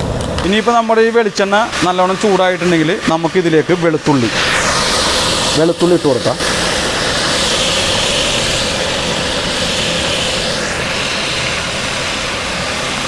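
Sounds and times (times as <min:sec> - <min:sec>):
garlic sizzling in oil: 0:00.2 - 0:13.0.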